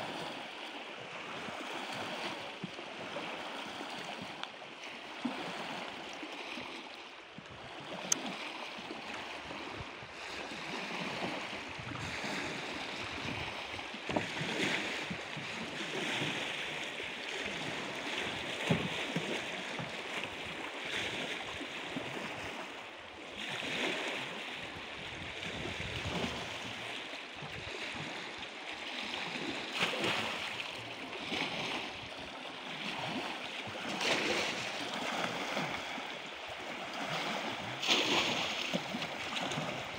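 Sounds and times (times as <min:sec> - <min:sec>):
water lapping and splashing: 0:00.0 - 0:39.9.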